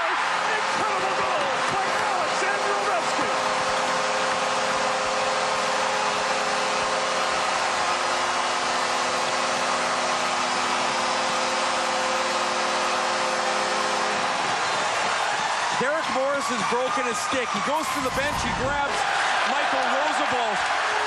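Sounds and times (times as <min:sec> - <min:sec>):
crowd cheering: 0:00.0 - 0:21.0.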